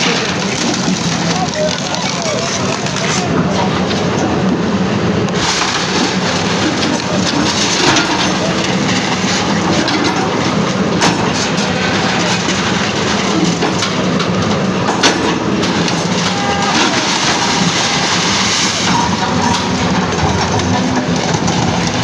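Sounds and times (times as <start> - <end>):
debris crushing and cracking: 0.0 - 4.1, 5.3 - 22.0
demolition din: 0.0 - 22.0.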